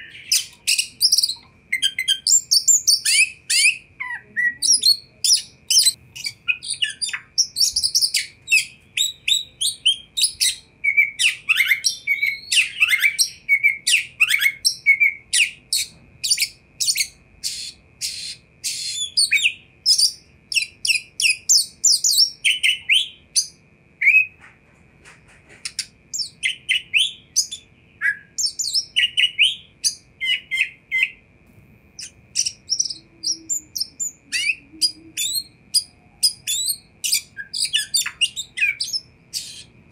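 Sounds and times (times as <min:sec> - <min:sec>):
bird singing chips and whistles: 0:00.0 - 0:24.4, 0:25.6 - 0:31.2, 0:32.0 - 0:39.7.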